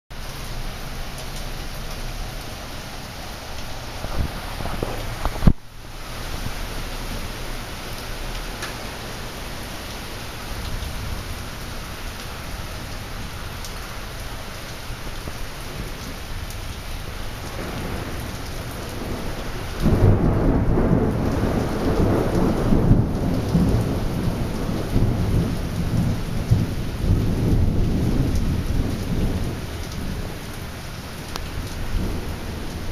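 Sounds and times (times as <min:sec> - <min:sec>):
steady rain falling: 0:00.1 - 0:32.9
loud thunderclap rumbling: 0:02.2 - 0:05.6, 0:06.2 - 0:13.5, 0:15.2 - 0:30.4, 0:31.4 - 0:32.9.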